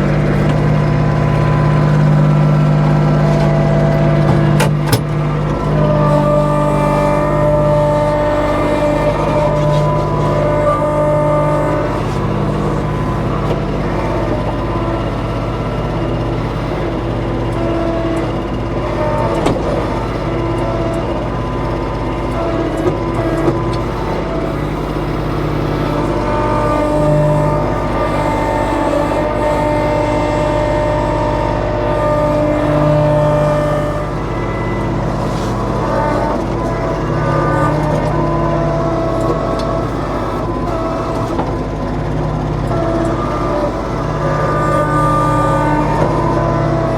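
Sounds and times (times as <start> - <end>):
diesel tractor engine idling: 0.0 - 46.9.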